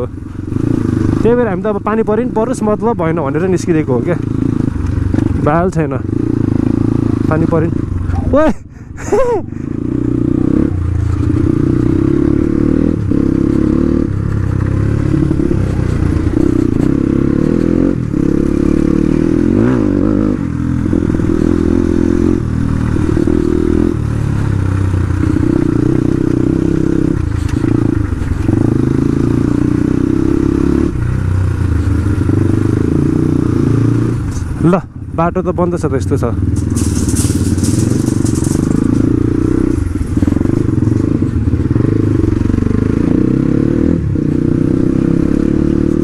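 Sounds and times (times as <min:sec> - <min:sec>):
motorcycle engine running: 0:00.0 - 0:46.0
wind and road noise: 0:00.0 - 0:46.0.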